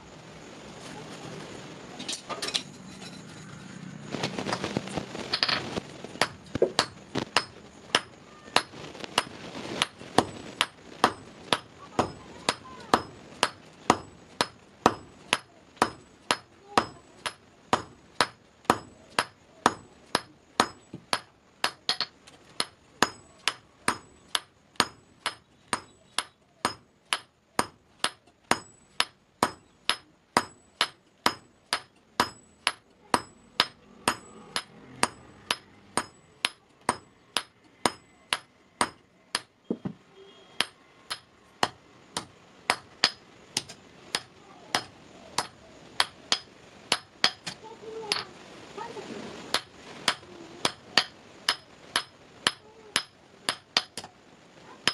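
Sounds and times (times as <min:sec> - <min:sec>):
hammer striking steel on anvil: 0:06.2 - 0:39.9, 0:40.6 - 0:48.3, 0:49.5 - 0:54.1.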